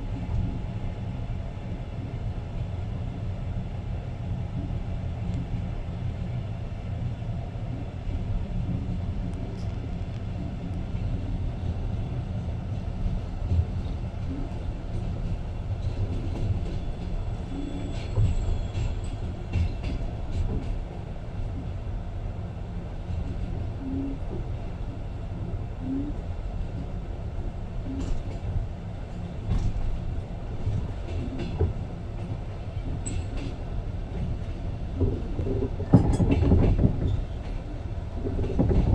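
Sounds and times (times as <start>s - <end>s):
clicks and knocks of train: 0.0s - 38.9s
train wheels rumbling on rails: 0.0s - 38.9s.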